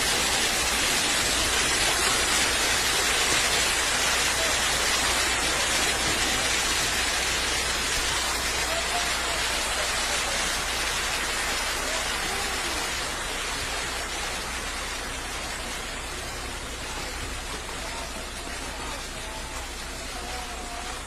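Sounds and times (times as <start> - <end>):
debris flow rushing: 0.0 - 21.0
rain: 0.0 - 21.0.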